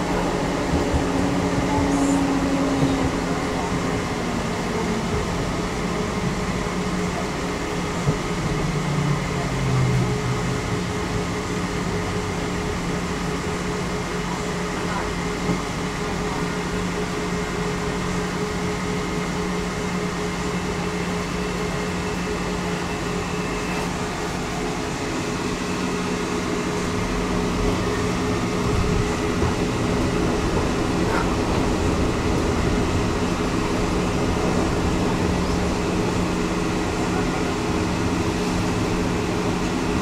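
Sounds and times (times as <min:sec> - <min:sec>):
wheels rumbling on rails: 0:00.0 - 0:40.0.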